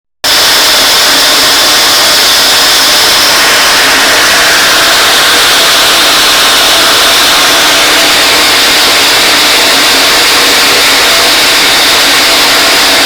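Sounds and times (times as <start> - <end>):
hammer mill running: 0.2 - 13.0
high machine whine: 0.3 - 13.0.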